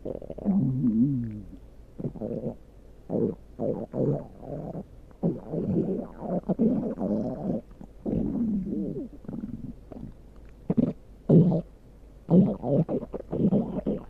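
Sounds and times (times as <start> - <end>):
stomach growling: 0.0 - 11.7, 12.3 - 14.0.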